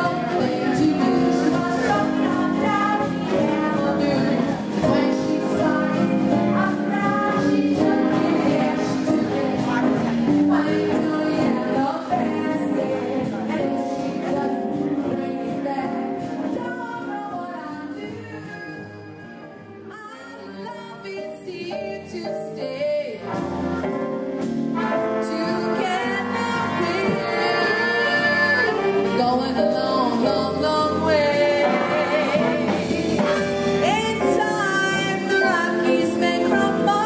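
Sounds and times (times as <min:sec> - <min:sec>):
dance band playing: 0:00.0 - 0:19.9, 0:23.2 - 0:37.0
woman singing: 0:00.0 - 0:23.8, 0:24.8 - 0:37.0.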